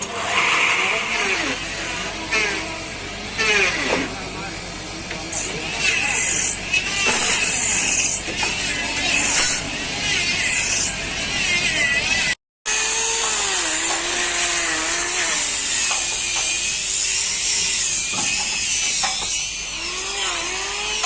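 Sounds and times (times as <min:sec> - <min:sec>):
power tool running: 0:00.0 - 0:04.2, 0:05.3 - 0:21.0.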